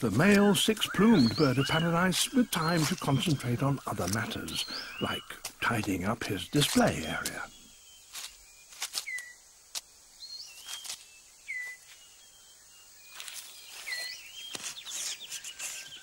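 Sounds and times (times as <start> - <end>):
bird trill: 0.0 - 9.4, 10.2 - 16.0
whistled bird notes: 0.0 - 9.4, 10.2 - 16.0
leaves and twigs rustling: 0.0 - 16.0.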